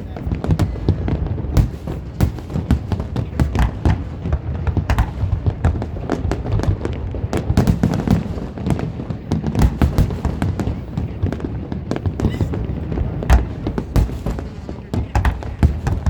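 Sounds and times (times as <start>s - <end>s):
fireworks bangs and cracks: 0.0s - 16.0s
low rumble of booming shells: 0.0s - 16.0s.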